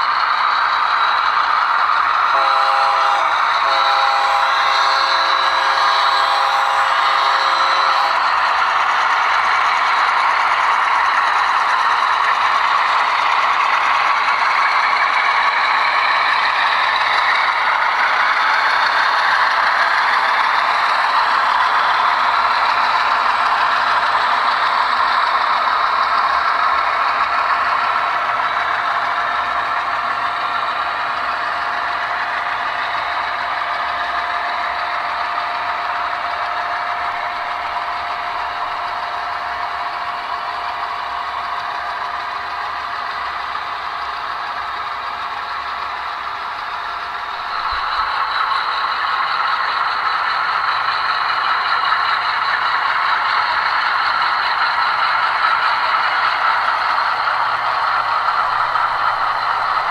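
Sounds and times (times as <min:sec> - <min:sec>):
model train rattling on track: 0:00.0 - 0:59.9.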